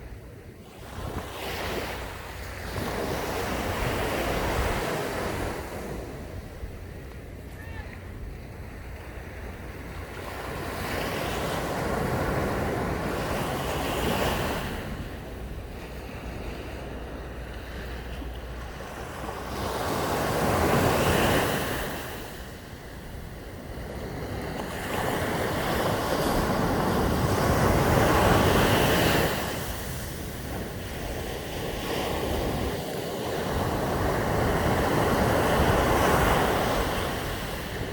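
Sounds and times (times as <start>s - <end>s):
sea waves breaking on beach: 0.0s - 37.9s
wind on microphone: 0.0s - 37.9s.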